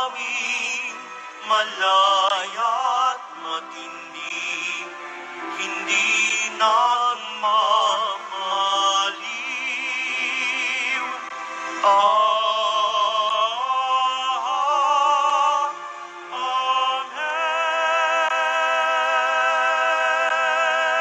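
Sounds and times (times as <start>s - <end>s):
person singing a hymn: 0.0s - 21.0s
steady musical accompaniment: 0.0s - 21.0s.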